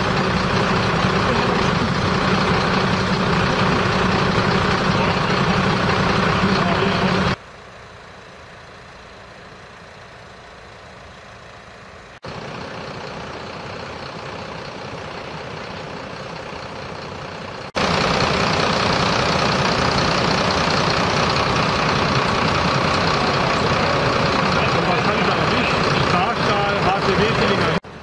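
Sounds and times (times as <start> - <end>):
outdoor noise: 0.0 - 28.0
vehicle engine idling: 0.0 - 28.0.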